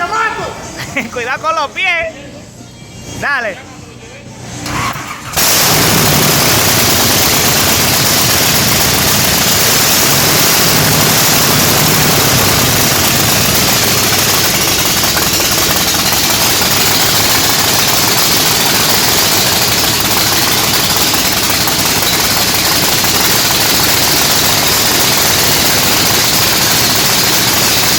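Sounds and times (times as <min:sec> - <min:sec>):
dragster engine running loud: 0:05.0 - 0:27.9.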